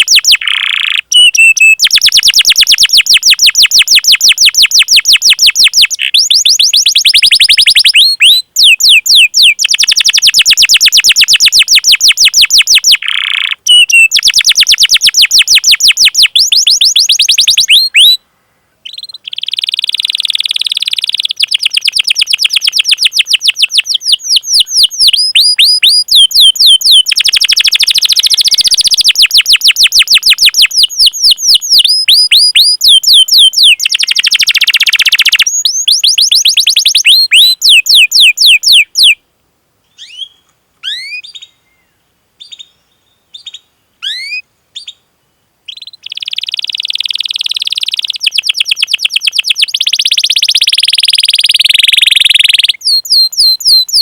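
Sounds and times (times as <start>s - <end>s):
canary singing rapid chirps: 0.0s - 18.2s, 18.8s - 39.2s, 40.0s - 41.6s, 43.3s - 45.0s, 45.7s - 54.0s.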